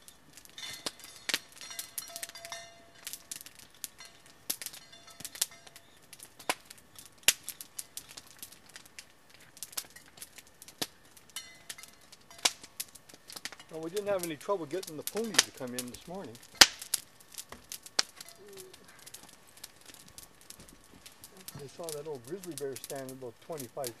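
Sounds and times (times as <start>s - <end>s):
sharp pops of fire: 0.0s - 24.0s
wood fire crackling: 0.0s - 24.0s.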